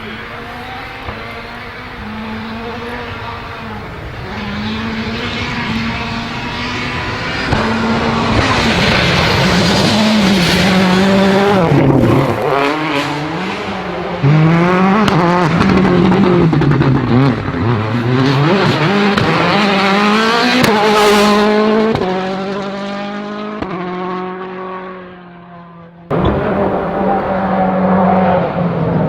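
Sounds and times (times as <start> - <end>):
rally car engine revving: 0.0 - 29.0
exhaust cracks: 1.0 - 22.2, 26.1 - 29.0.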